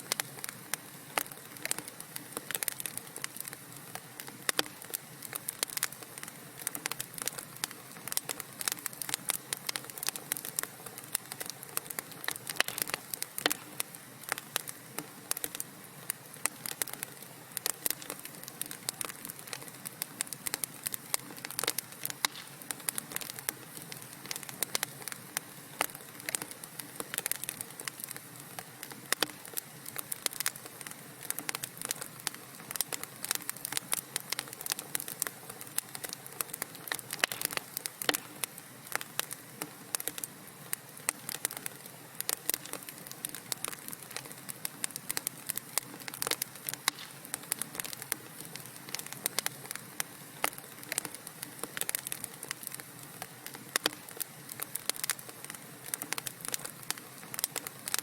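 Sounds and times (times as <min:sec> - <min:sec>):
fire soft hiss: 0:00.0 - 0:58.0
wood fire crackling and popping: 0:00.0 - 0:58.0.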